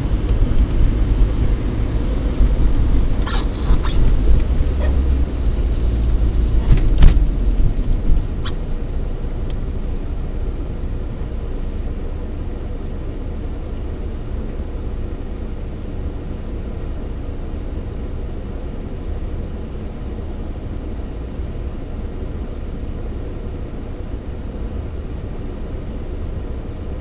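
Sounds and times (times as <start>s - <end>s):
car cabin low hum: 0.0s - 27.0s
road and engine rumble: 0.0s - 27.0s.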